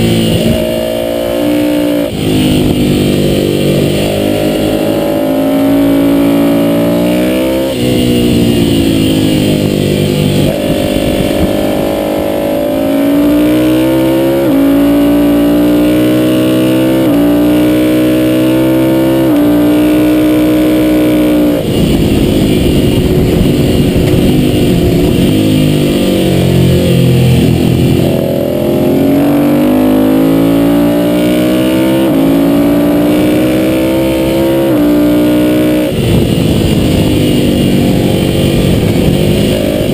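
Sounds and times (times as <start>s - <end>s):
gear shift pitch drop: 0.0s - 39.9s
motorcycle engine revving: 0.0s - 39.9s.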